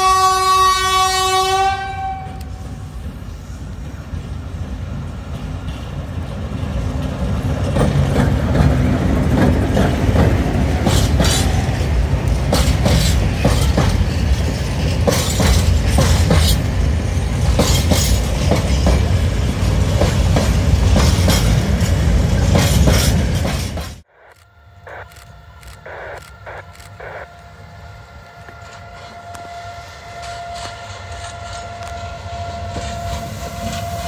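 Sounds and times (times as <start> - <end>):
diesel locomotive engine rumbling: 0.0 - 34.0
train wheels clacking on rail joints: 2.2 - 24.0, 28.4 - 34.0.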